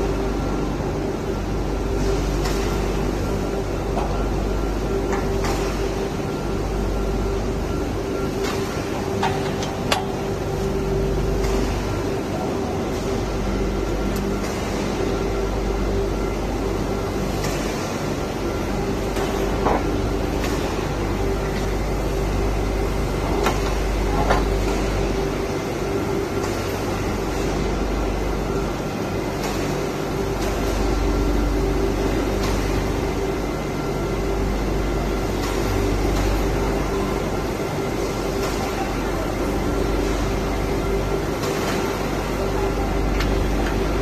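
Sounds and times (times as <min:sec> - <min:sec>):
machinery hum: 0:00.0 - 0:44.0.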